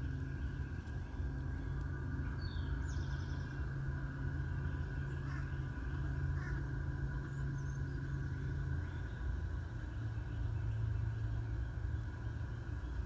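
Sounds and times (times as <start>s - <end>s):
faint steady hum: 0.0s - 13.0s
low churning rumble: 0.0s - 13.0s.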